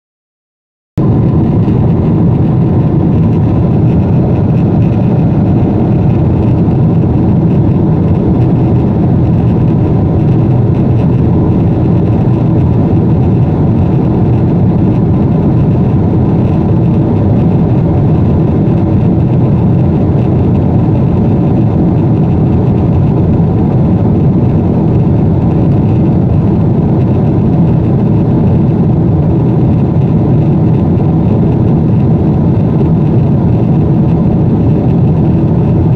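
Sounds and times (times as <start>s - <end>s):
airliner cabin drone: 1.0s - 35.9s.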